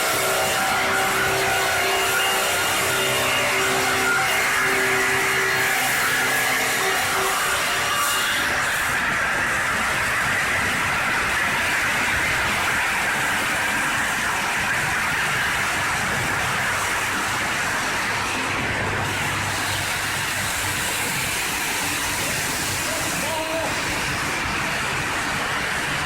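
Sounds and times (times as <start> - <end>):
rip saw running with hiss: 0.0 - 26.0.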